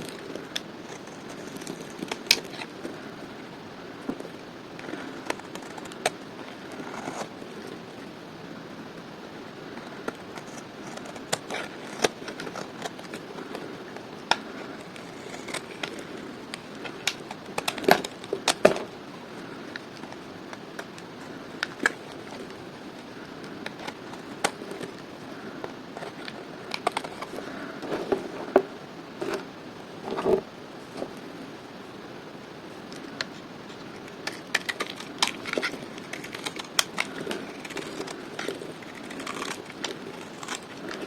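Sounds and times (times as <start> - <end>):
soap cracking under a blade: 0.0 - 3.1, 4.1 - 7.7, 9.6 - 27.8, 32.9 - 41.0
steady hiss: 0.0 - 41.0.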